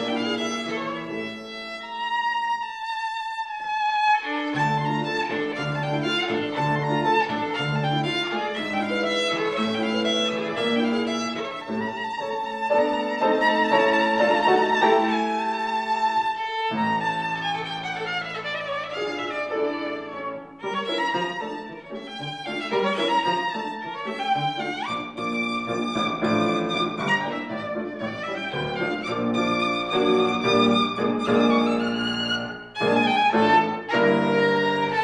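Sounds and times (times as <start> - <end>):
piano chords: 0.0 - 1.8, 4.6 - 35.0
solo violin melody: 0.0 - 35.0.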